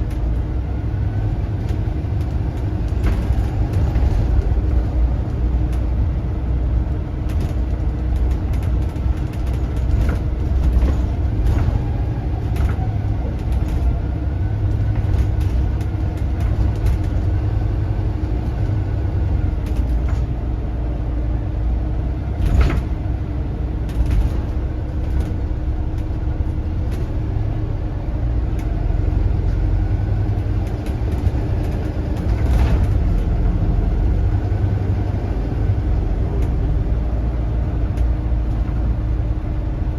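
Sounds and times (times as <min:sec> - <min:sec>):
body rattles and knocks: 0:00.0 - 0:20.4, 0:22.3 - 0:27.4, 0:28.5 - 0:39.3
bus engine drone: 0:00.0 - 0:39.9.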